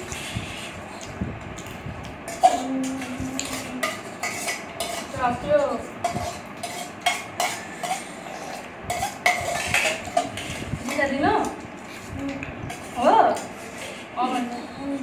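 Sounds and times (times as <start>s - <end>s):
spoons clinking on metal bowls: 2.2s - 14.7s.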